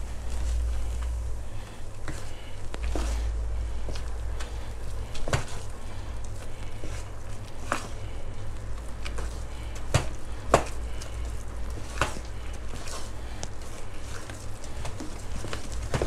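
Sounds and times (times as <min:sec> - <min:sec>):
batter squishing: 0:00.0 - 0:16.0
low steady hum: 0:00.0 - 0:16.0.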